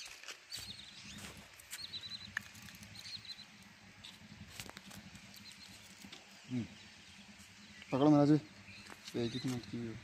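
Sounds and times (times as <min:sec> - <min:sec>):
high chirping calls: 0:00.5 - 0:10.0.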